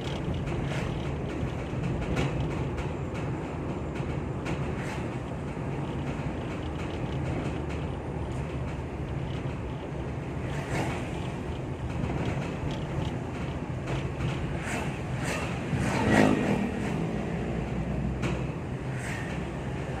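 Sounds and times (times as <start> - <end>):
vehicle road rumble: 0.0 - 20.0.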